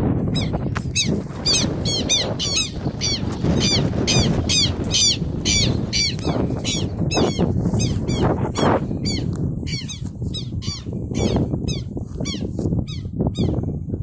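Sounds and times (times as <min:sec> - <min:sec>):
bird calling harshly: 0:00.4 - 0:13.6.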